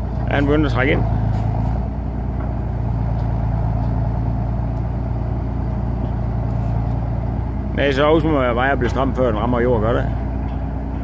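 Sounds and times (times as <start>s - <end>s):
dragline engine running: 0.0s - 11.0s.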